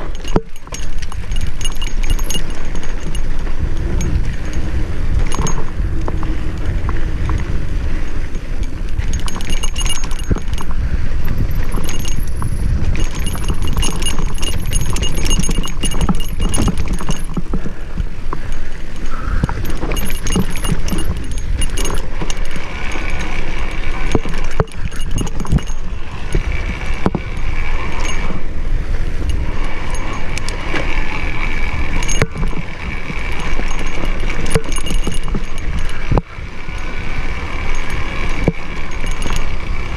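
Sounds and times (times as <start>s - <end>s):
mountain bike rattling: 0.0s - 39.9s
wind rumble on microphone: 0.0s - 39.9s.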